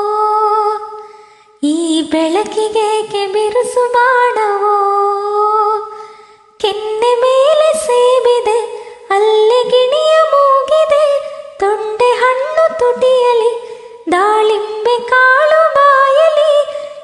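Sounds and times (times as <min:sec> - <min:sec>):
woman singing unaccompanied: 0:00.0 - 0:01.0, 0:01.6 - 0:06.0, 0:06.6 - 0:17.0.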